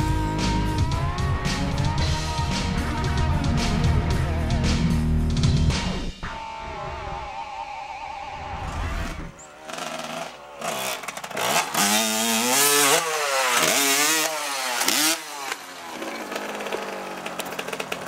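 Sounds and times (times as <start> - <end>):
dirt bike engine revving: 0.0 - 7.4, 8.0 - 18.0.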